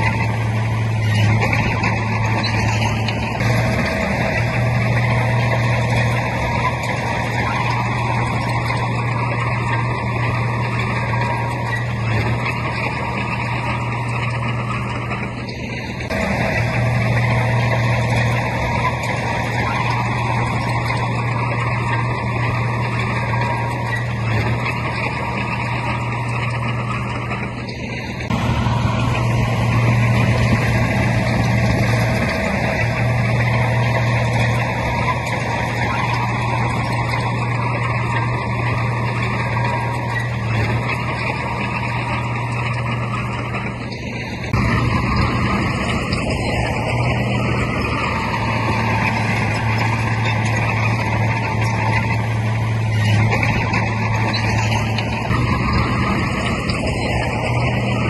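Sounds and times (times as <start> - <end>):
diesel earthmoving machinery running: 0.0 - 58.0.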